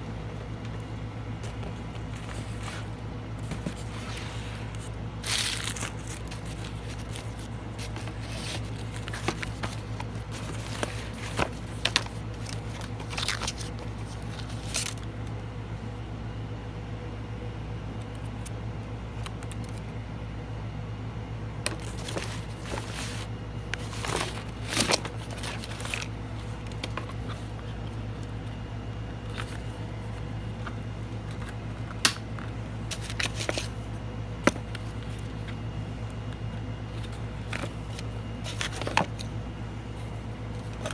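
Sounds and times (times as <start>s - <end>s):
air conditioner humming: 0.0s - 40.9s.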